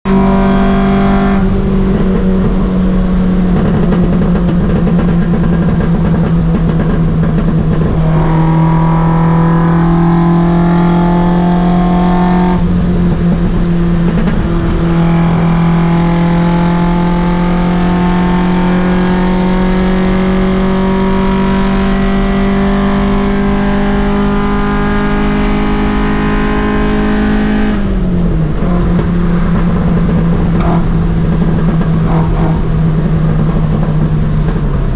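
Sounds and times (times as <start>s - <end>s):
engine running at high revs: 0.1s - 34.9s.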